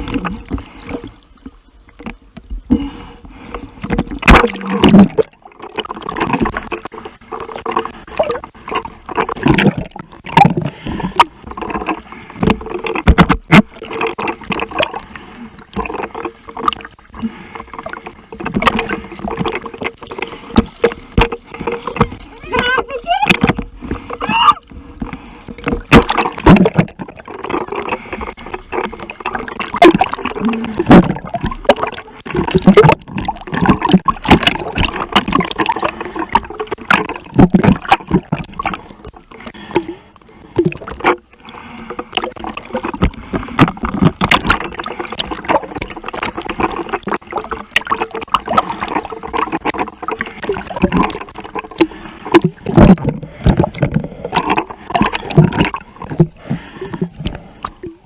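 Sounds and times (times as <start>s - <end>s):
sea water splashing: 0.0s - 58.0s.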